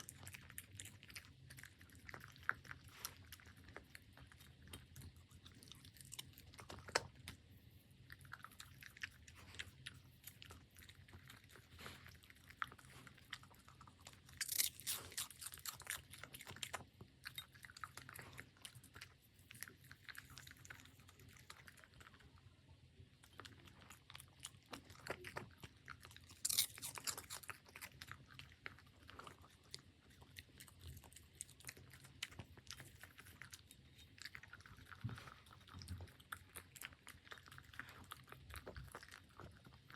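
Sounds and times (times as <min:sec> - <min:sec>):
puppy chewing food: 0:00.0 - 0:39.9.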